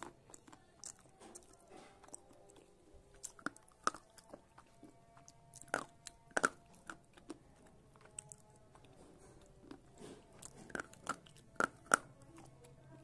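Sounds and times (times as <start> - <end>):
crunching slate pencils: 0.0 - 13.0.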